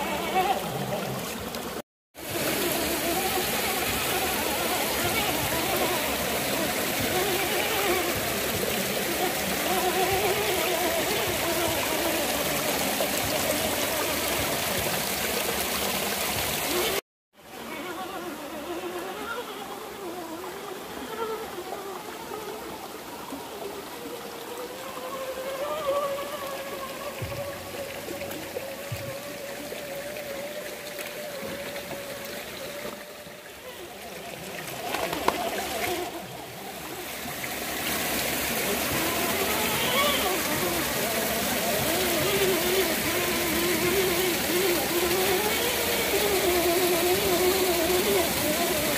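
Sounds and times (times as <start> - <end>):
electric motor whine: 0.0 - 48.9
stream running: 0.0 - 48.9.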